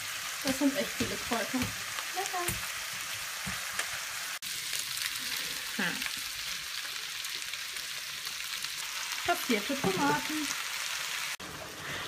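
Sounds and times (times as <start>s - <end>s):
meat and vegetables sizzling: 0.0s - 12.0s.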